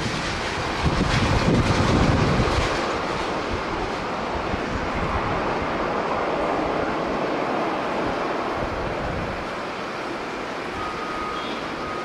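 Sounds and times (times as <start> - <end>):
wind buffeting microphone: 0.0 - 10.9
jet airliner engines roaring: 0.0 - 12.0.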